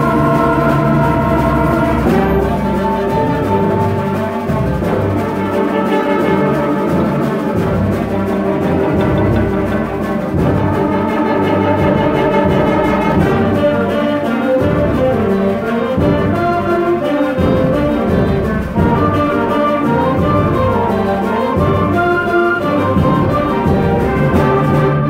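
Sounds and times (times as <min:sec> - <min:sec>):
brass instruments: 0:00.0 - 0:25.0
concert band playing: 0:00.0 - 0:25.0.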